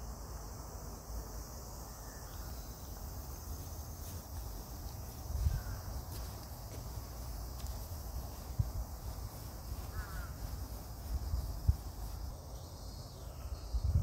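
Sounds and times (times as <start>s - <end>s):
insect chorus shrilling: 0.0s - 14.0s.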